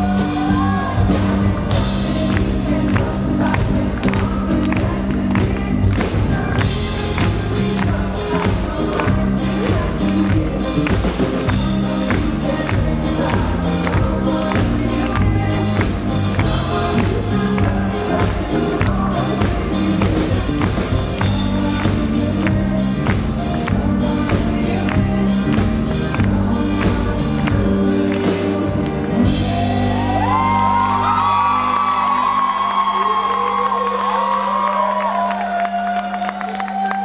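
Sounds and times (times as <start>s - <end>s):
drum beat: 0.0s - 32.1s
crowd singing and cheering: 0.0s - 37.0s
live pop-rock band with vocals: 0.0s - 37.0s.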